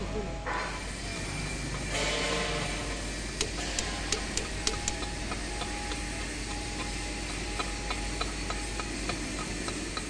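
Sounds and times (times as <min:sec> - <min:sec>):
faint hum: 0:00.0 - 0:10.0
workshop background hiss: 0:00.0 - 0:10.0
wrench and ratchet metallic ticks: 0:01.0 - 0:10.0.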